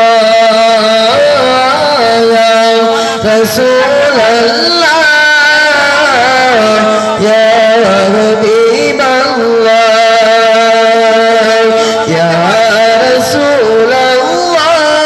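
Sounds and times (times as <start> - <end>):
man singing through a microphone: 0.0 - 15.0.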